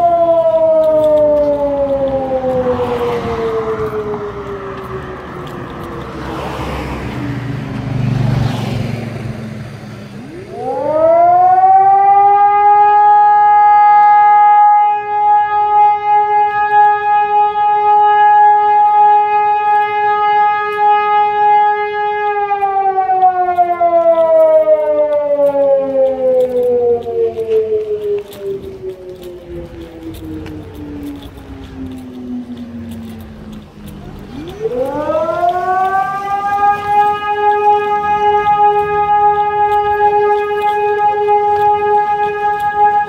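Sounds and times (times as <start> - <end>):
fire alarm siren wailing: 0.0 - 7.5, 10.2 - 43.0.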